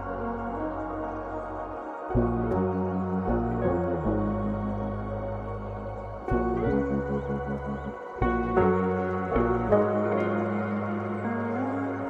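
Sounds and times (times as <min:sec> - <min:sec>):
ambient music with deep bass: 0:00.0 - 0:12.0.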